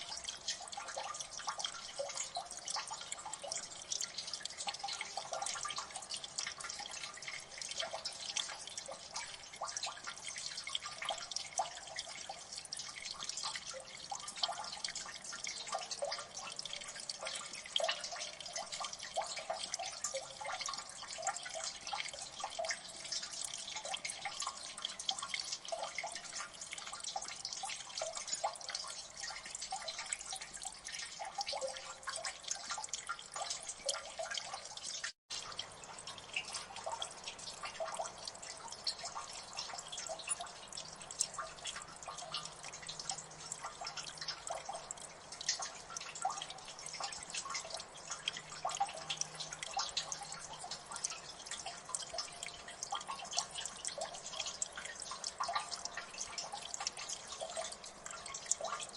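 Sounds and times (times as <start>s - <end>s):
dense water dripping: 0.0s - 58.9s.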